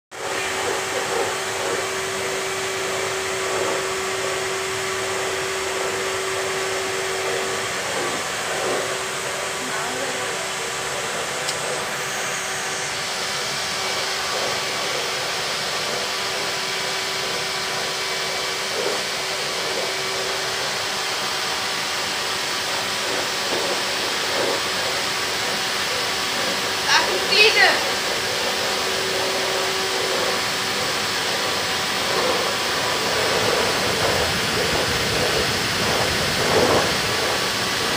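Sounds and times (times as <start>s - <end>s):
vacuum cleaner running: 0.1s - 37.9s.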